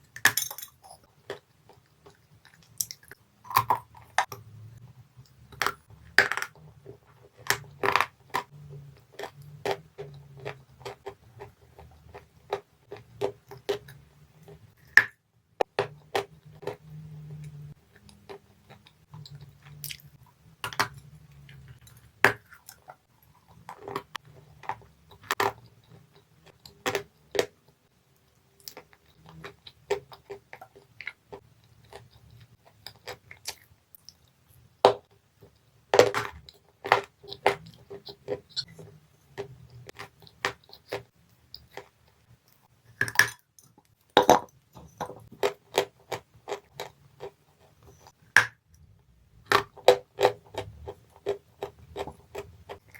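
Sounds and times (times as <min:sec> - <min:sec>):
clay being chewed with crunches: 0:05.2 - 0:52.9.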